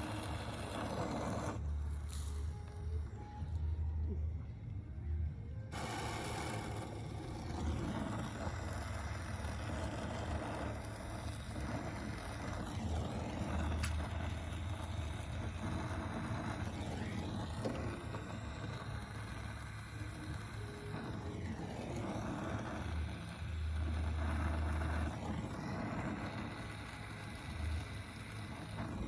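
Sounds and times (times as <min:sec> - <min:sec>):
gas torch flame hissing: 0:00.0 - 0:04.2, 0:05.7 - 0:29.0.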